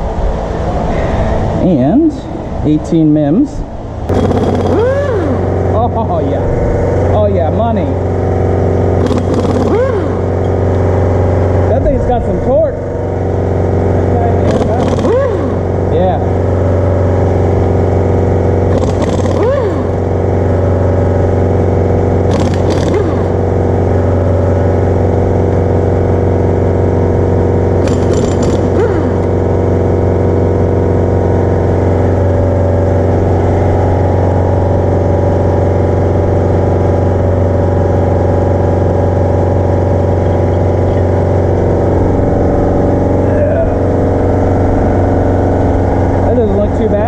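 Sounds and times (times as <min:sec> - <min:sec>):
mechanical drone with low hum: 0:00.0 - 0:47.0.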